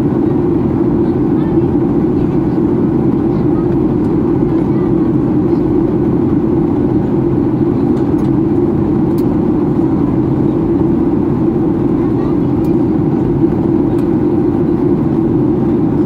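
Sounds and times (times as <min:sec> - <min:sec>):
airflow over fuselage: 0:00.0 - 0:16.0
jet engine cabin drone: 0:00.0 - 0:16.0.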